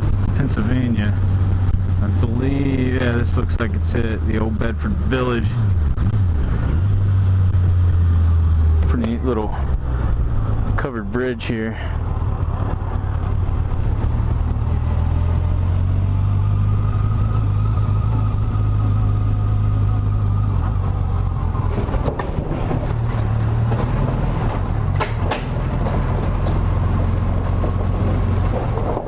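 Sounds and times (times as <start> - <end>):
motorcycle engine running: 0.0 - 29.0
road noise: 0.0 - 29.0.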